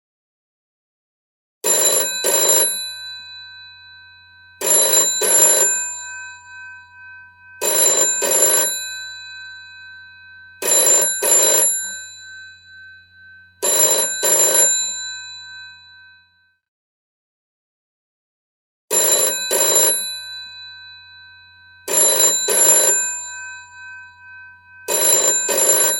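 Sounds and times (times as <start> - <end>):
old telephone bell ringing: 1.6 - 16.6, 18.9 - 25.9.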